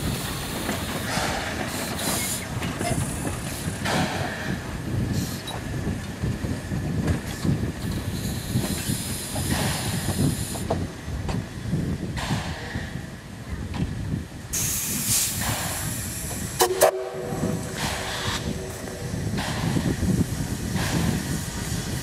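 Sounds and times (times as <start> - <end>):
steam engine hissing: 0.0 - 11.0, 14.5 - 22.0.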